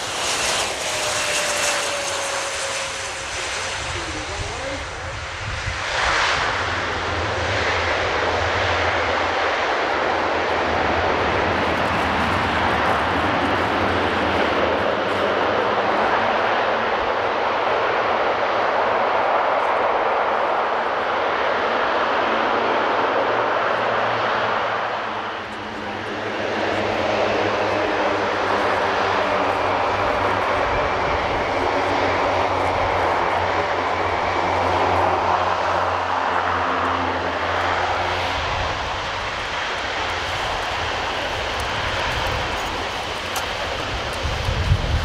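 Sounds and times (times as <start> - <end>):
turboprop engines and propellers: 0.0 - 45.0.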